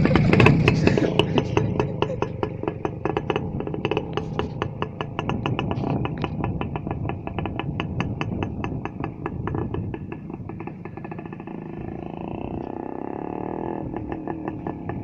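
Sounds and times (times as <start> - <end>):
two-stroke motorcycle engine popping: 0.0 - 15.0.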